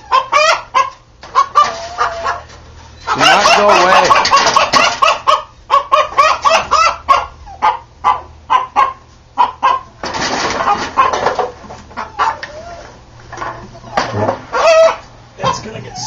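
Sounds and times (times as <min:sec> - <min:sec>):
rooster clucking: 0:00.0 - 0:16.0.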